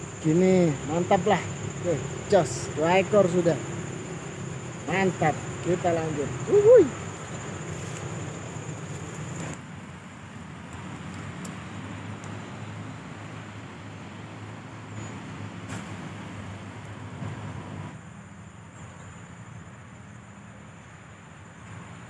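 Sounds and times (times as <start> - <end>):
high insect buzz: 0.0 - 18.0
distant road traffic hum: 0.0 - 22.0.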